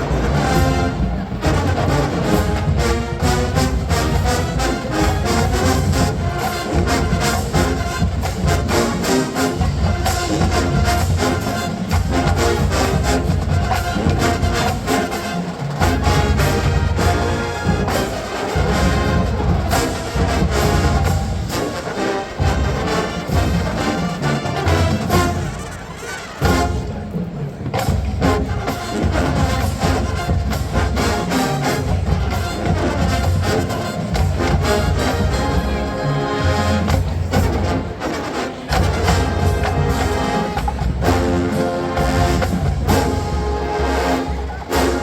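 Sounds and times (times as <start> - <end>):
steady drum beat: 0.0 - 25.6, 26.4 - 45.0
brass horns and trombones: 0.0 - 45.0.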